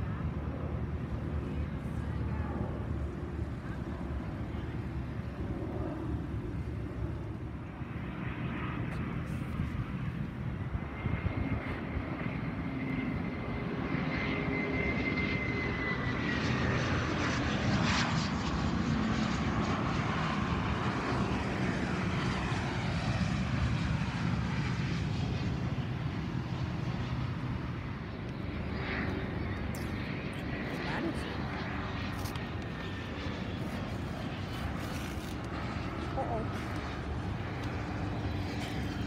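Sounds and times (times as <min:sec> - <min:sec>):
jet engine whine: 0:00.0 - 0:39.0
jet roar: 0:00.0 - 0:39.0.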